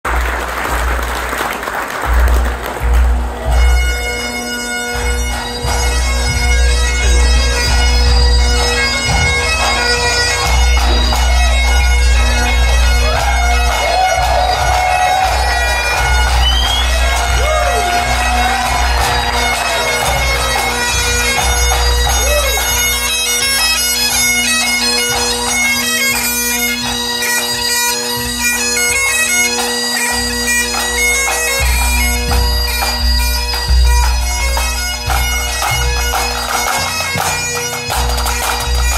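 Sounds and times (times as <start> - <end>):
pipe band bagpipes playing: 0.7 - 38.9.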